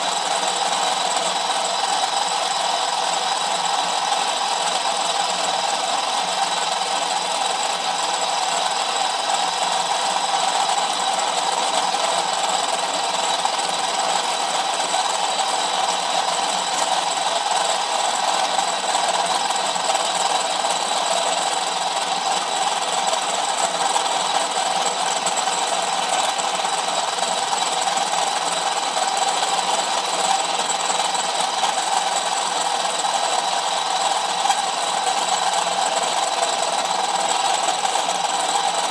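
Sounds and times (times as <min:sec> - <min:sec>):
drill cutting into steel: 0:00.0 - 0:38.9.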